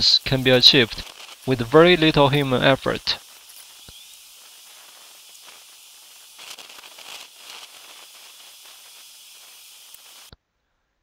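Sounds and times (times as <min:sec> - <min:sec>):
rustling crackling: 0:00.0 - 0:10.4
faint outdoor hiss: 0:00.0 - 0:11.0.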